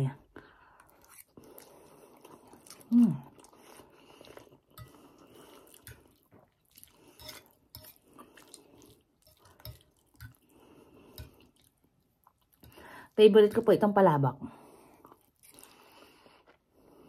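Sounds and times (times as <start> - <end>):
person chewing noodles: 0.3 - 13.0, 14.6 - 17.0.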